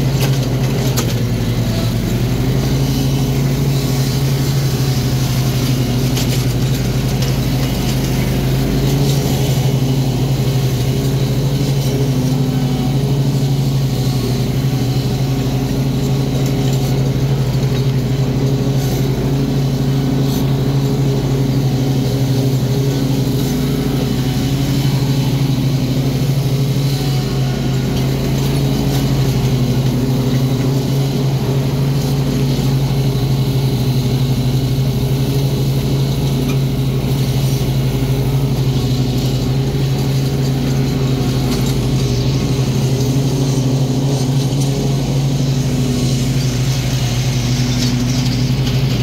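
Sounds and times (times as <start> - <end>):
riding mower engine droning: 0.0 - 49.0.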